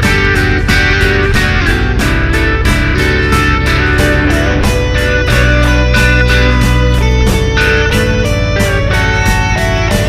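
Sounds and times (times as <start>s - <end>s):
guitar-led background music: 0.0s - 10.0s.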